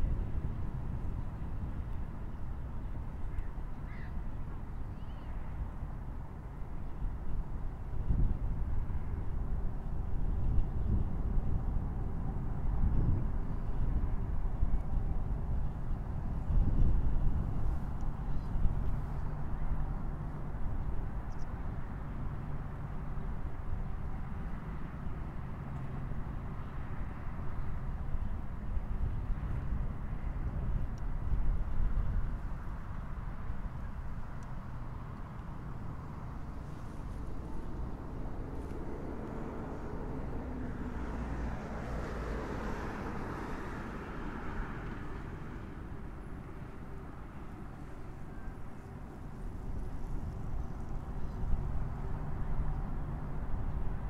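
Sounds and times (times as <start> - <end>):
distant traffic rumble: 0.0 - 54.0.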